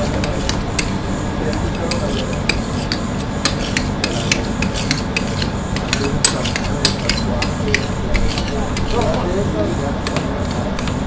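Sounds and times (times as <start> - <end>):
metal spatulas scraping and tapping: 0.0 - 9.4
steady low machine hum: 0.0 - 11.0.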